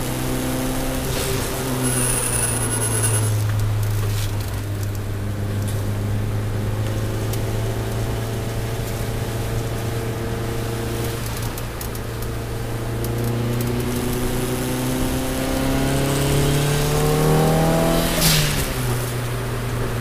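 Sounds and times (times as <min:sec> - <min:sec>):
car engine under load: 0:00.0 - 0:20.0.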